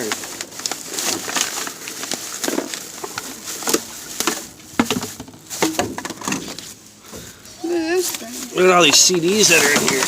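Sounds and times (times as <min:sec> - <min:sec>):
knocks and clatter of objects: 0:00.0 - 0:07.3, 0:08.8 - 0:10.0
trash rustling: 0:00.0 - 0:10.0.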